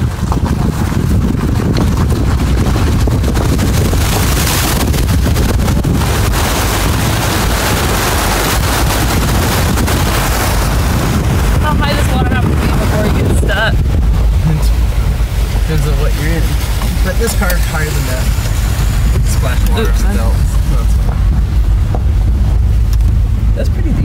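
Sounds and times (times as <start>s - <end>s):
low rumble: 0.0s - 24.0s
water rushing and splashing: 0.0s - 24.0s.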